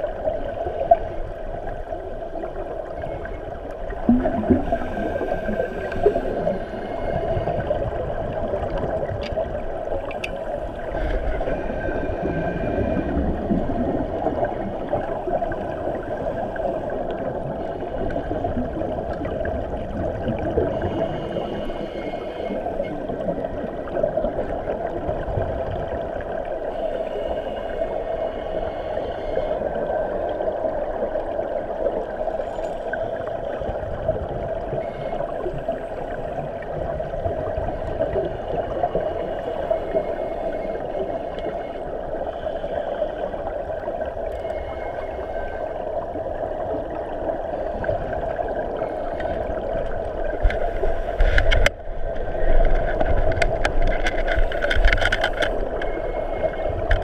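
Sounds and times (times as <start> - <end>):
muffled underwater water rush: 0.0 - 57.0.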